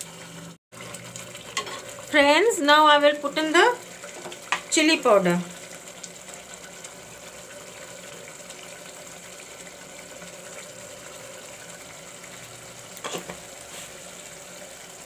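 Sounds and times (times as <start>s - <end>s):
masala sizzling and bubbling: 0.0s - 15.0s.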